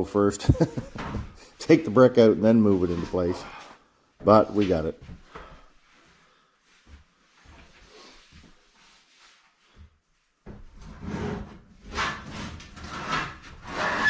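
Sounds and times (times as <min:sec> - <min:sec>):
objects scraping and clunking: 0:00.4 - 0:05.6, 0:06.8 - 0:14.0.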